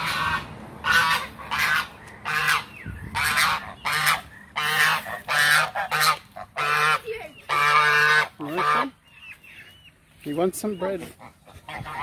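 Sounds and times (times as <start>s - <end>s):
goose honking: 0.0s - 12.0s.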